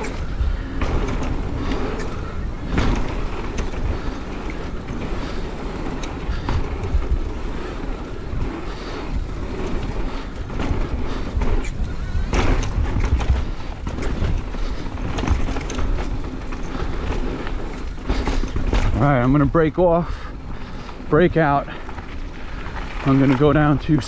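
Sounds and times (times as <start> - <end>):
bike knocking and rattling: 0.0 - 24.0
tyres rumbling over dirt: 0.0 - 24.0.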